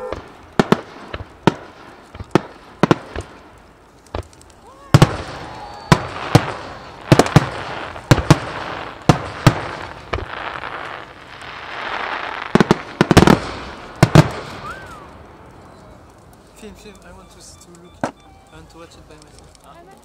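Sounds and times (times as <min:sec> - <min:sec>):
fireworks bangs: 0:00.0 - 0:19.9.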